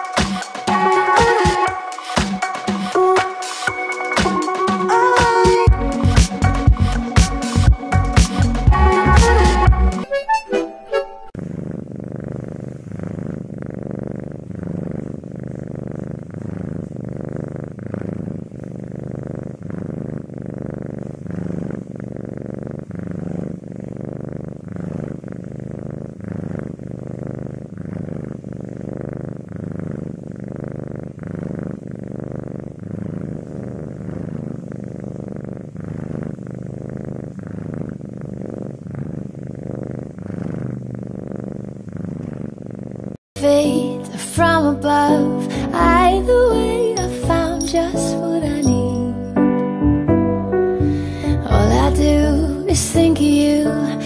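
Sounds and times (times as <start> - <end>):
cat purring: 0.0 - 10.2, 11.2 - 54.0.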